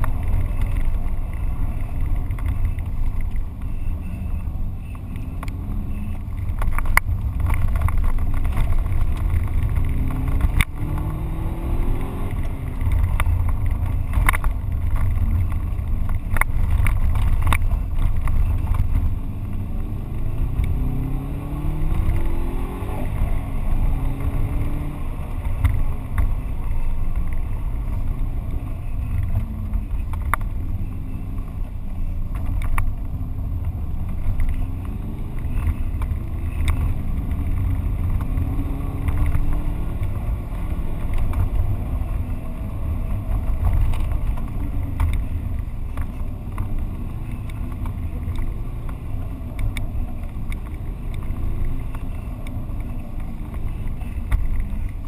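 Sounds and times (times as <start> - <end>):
car engine accelerating: 0.0 - 55.0
gravel ticking on car: 0.0 - 55.0
road rumble: 0.0 - 55.0.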